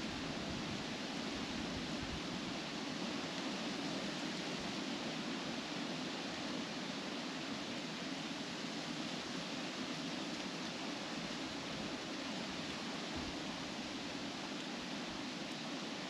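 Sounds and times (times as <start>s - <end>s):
wind rustling tree leaves: 0.0s - 16.0s.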